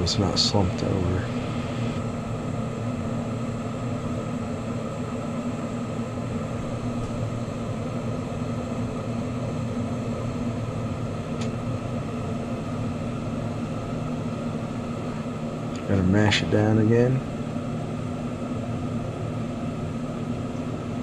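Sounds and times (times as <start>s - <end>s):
torch flame roaring: 0.0s - 21.0s.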